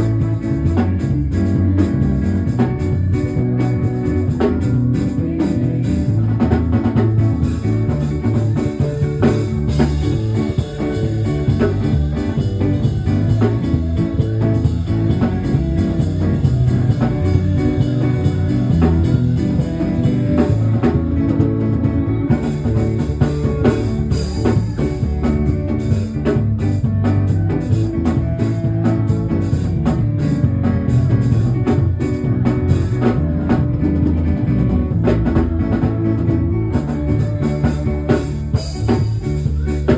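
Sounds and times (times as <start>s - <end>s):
band music with guitar and drums: 0.0s - 39.9s.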